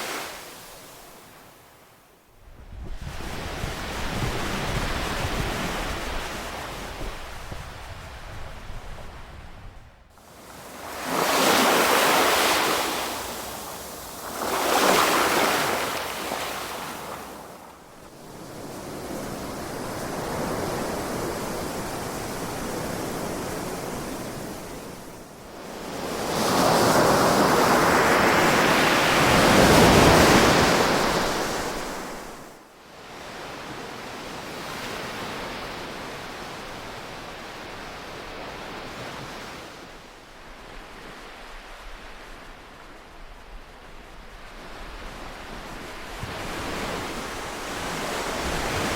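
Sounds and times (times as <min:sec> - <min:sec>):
ocean waves breaking on shore: 0:00.0 - 0:01.8, 0:02.8 - 0:48.9.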